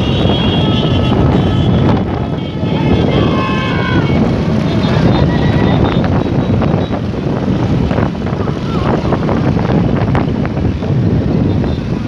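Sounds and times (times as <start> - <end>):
motorcycles running together: 0.0 - 12.0
wind buffeting microphone: 0.0 - 12.0.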